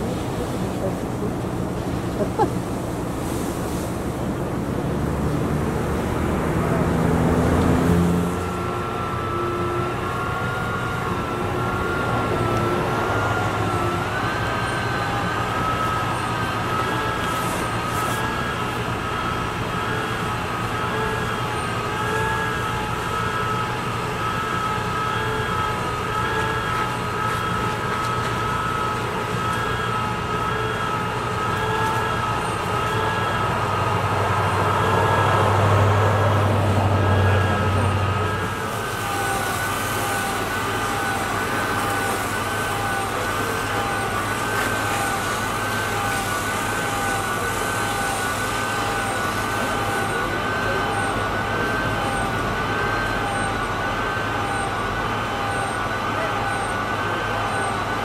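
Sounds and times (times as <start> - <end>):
fire engine hum: 0.0 - 58.0
wavering high whine: 0.0 - 58.0.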